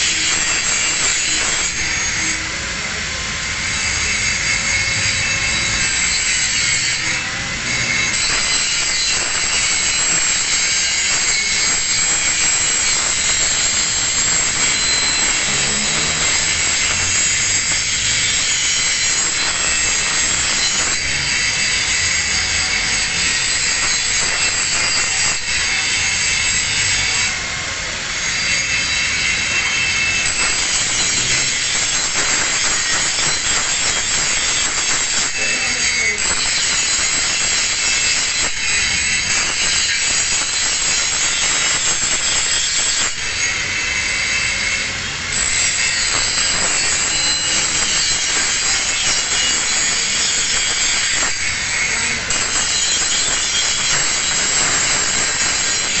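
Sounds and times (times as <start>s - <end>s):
angle grinder grinding steel: 0.0s - 56.0s.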